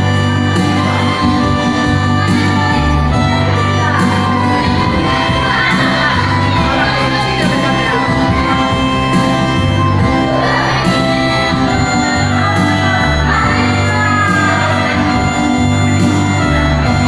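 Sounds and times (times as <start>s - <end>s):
held bass notes: 0.0s - 17.0s
voices singing along: 0.0s - 17.0s
worship band playing: 0.0s - 17.0s.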